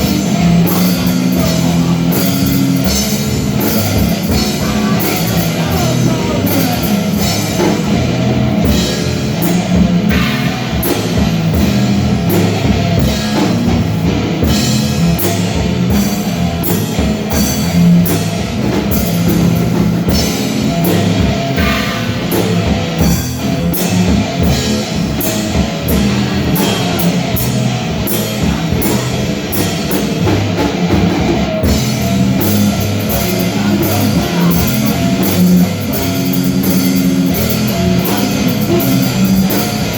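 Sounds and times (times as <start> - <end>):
heavy metal rock music: 0.0 - 39.9.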